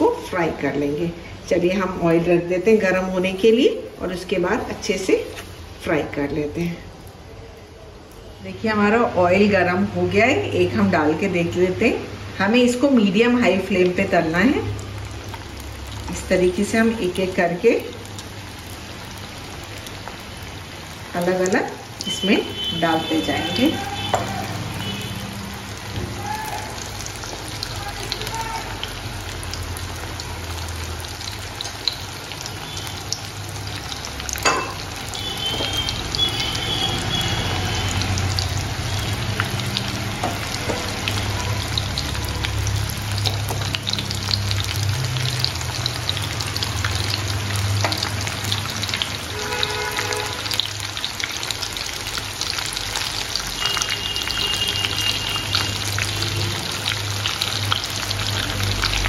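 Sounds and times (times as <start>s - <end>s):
food deep-frying in hot oil: 0.0s - 59.0s.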